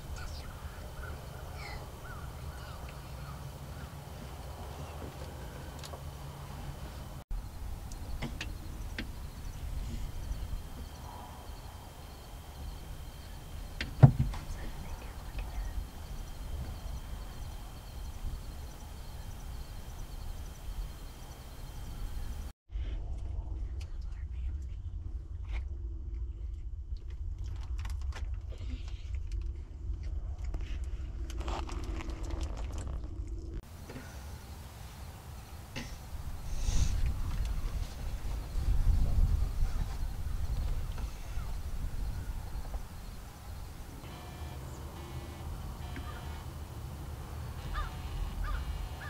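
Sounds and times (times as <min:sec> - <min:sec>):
low steady rumble: 0:00.0 - 0:49.0.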